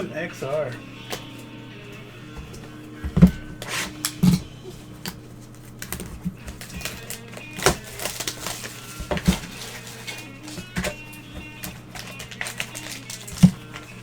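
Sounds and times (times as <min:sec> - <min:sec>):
faint background music: 0:00.0 - 0:14.0
packaging rustling: 0:01.1 - 0:14.0
taps and knocks on card packaging: 0:02.4 - 0:14.0.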